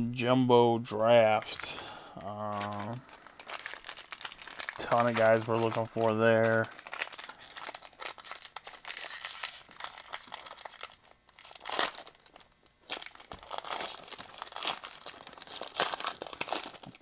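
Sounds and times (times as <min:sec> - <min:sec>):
foil wrapper crinkling: 0:01.4 - 0:17.0.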